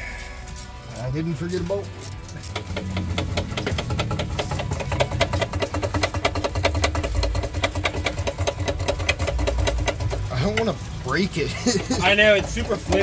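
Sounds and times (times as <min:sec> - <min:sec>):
air ratchet running: 0:00.0 - 0:13.0.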